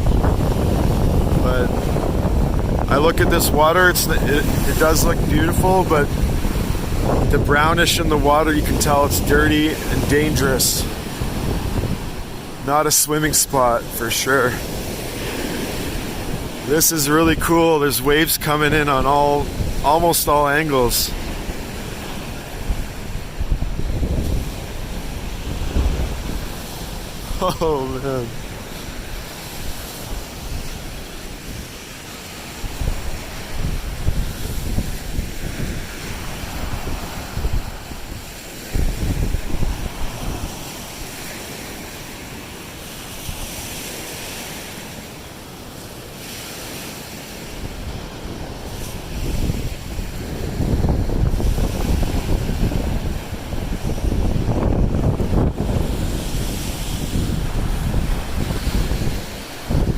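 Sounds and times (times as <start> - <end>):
wind buffeting microphone: 0.0 - 44.8, 46.2 - 59.9
waves washing on sandy shore: 0.0 - 59.9.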